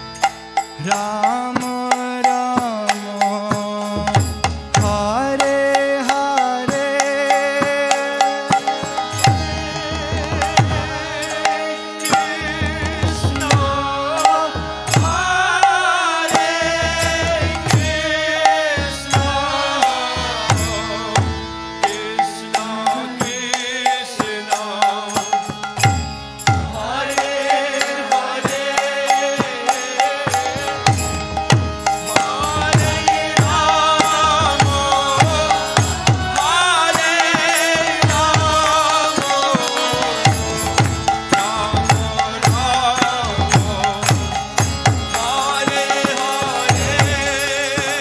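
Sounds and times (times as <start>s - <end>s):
harmonium chords: 0.0s - 48.0s
people singing: 0.0s - 48.0s.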